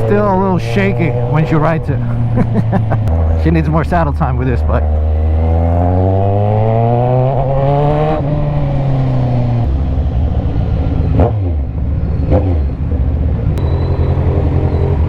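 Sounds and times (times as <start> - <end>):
motorcycle engine revving: 0.0 - 3.9, 4.7 - 15.0.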